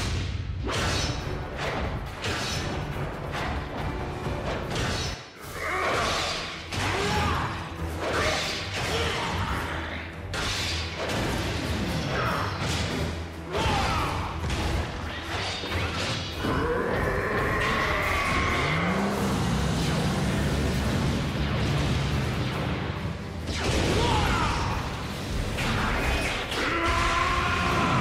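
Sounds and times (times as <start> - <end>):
dramatic music: 0.0 - 28.0.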